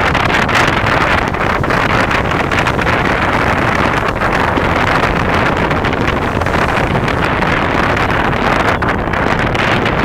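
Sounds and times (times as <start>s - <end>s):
surf washing on sand: 0.0s - 10.0s
wind on microphone: 0.0s - 10.0s.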